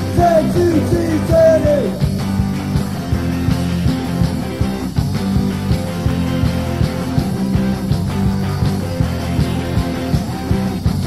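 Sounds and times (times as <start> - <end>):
punk rock electric guitar: 0.0 - 11.0
steady drum beat: 0.0 - 11.0.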